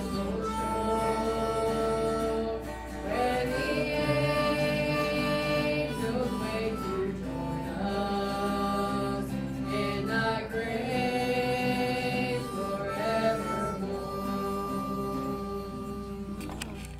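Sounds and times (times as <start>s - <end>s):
woman singing gospel song: 0.0s - 16.6s
strummed guitar chords: 0.0s - 16.9s.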